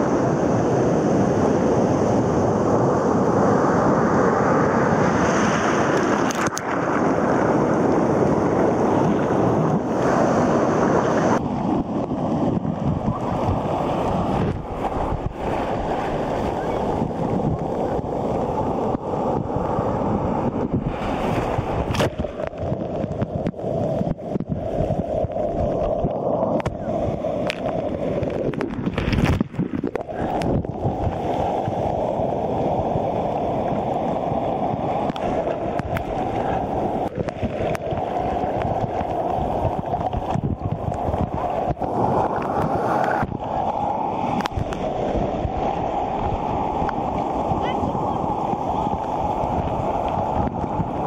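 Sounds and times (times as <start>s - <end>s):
muffled rushing surf: 0.0s - 51.0s.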